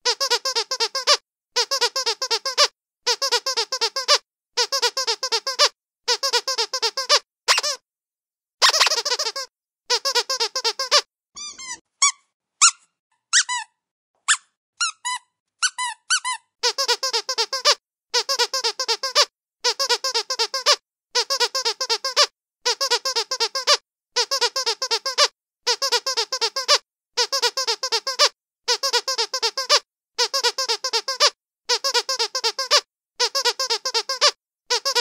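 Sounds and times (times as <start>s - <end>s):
squeaky dog toy squeezed: 0.0s - 7.8s, 8.6s - 35.0s.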